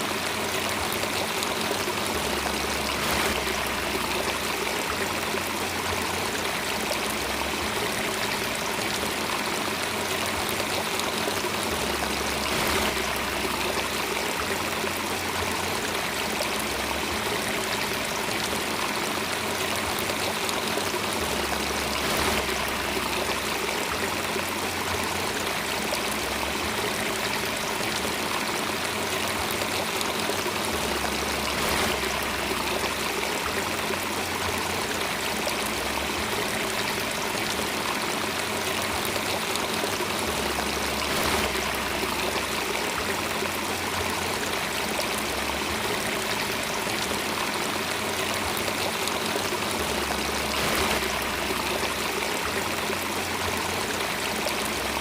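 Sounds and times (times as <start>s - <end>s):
stream of water trickling: 0.0s - 55.0s.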